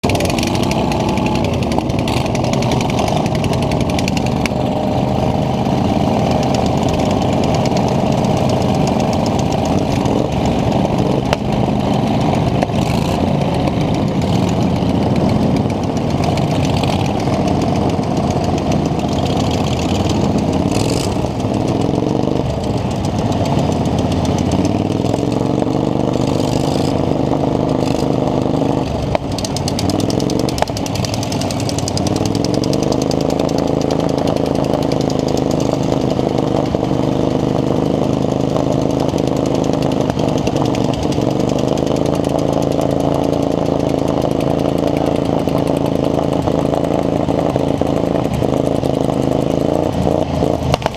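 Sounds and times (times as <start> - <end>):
lawn mower engine revving: 0.0 - 50.9.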